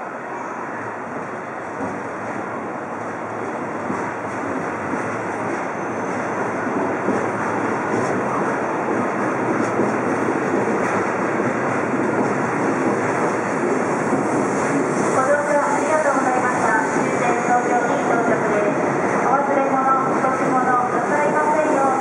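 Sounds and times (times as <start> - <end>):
train rushing past: 0.0 - 22.0.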